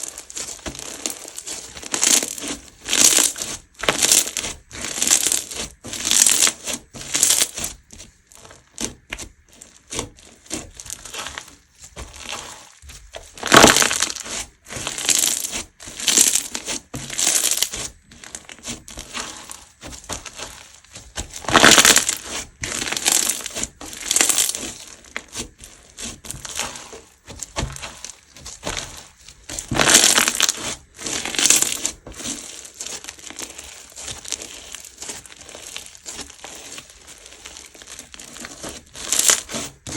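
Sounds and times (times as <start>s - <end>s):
crunchy slime crackling: 0.0s - 39.9s.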